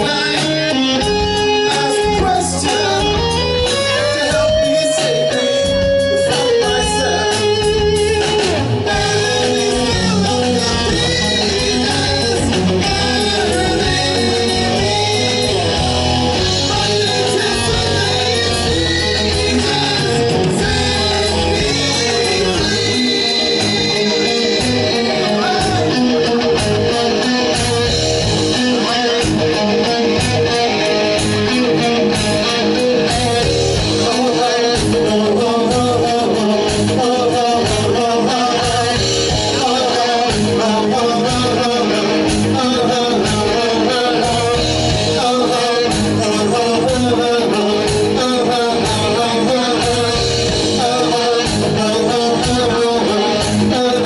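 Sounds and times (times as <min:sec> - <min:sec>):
bass guitar: 0:00.0 - 0:54.0
drums: 0:00.0 - 0:54.0
electric guitar: 0:00.0 - 0:54.0
person singing: 0:00.0 - 0:54.0.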